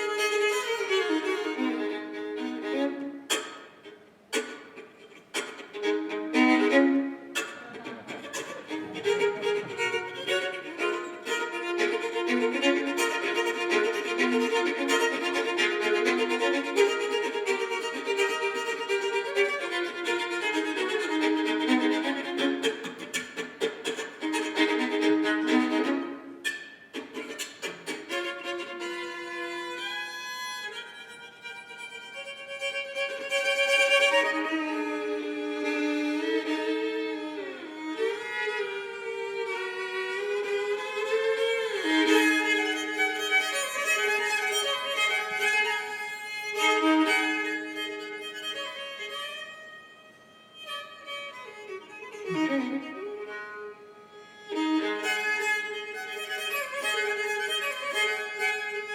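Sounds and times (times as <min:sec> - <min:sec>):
solo fiddle playing: 0:00.0 - 0:58.9.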